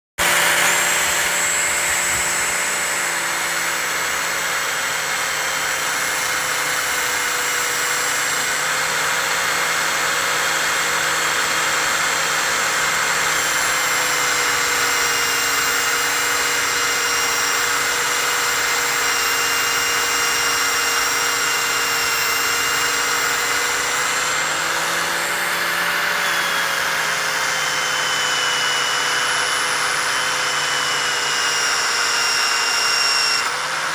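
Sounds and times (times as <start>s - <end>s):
electric motor running: 0.2s - 33.9s.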